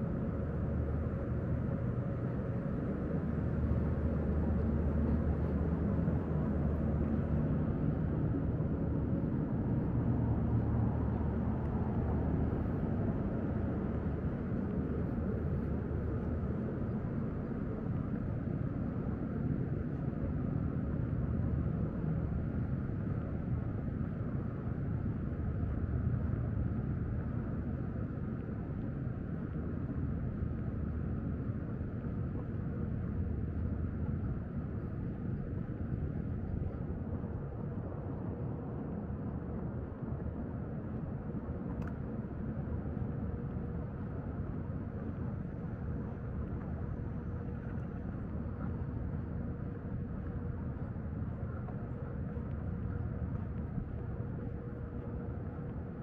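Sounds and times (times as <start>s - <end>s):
faint steady hum: 0.0s - 56.0s
low outdoor rumble: 0.0s - 56.0s.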